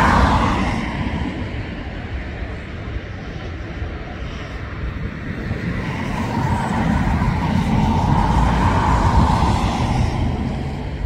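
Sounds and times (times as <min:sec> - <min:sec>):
airliner engine rumble passing: 0:00.0 - 0:11.0.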